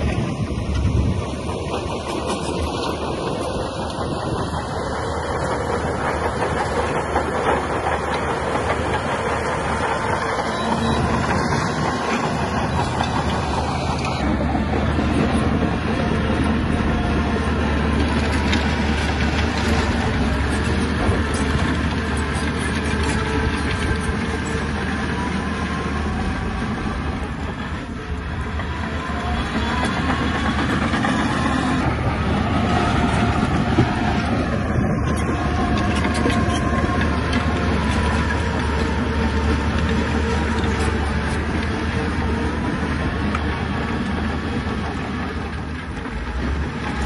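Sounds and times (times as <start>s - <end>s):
bulldozer diesel engine running: 0.0s - 47.0s
steel tracks clattering: 0.0s - 47.0s.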